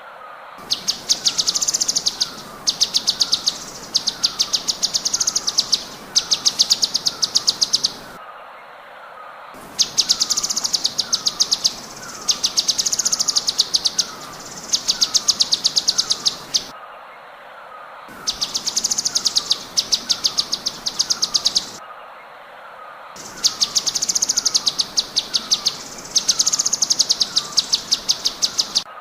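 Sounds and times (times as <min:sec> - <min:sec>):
bird song sharp high notes: 0:00.6 - 0:08.2, 0:09.8 - 0:16.7, 0:18.1 - 0:21.8, 0:23.2 - 0:28.9.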